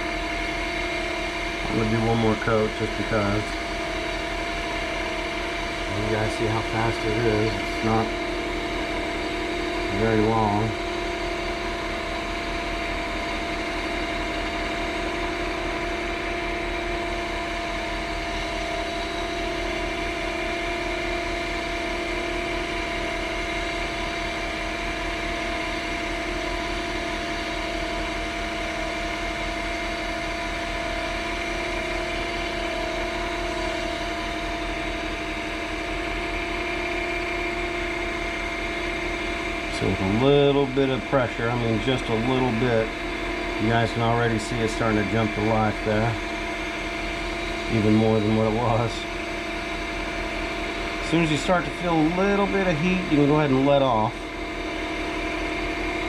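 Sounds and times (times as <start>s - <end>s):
lathe running: 0.0s - 56.0s.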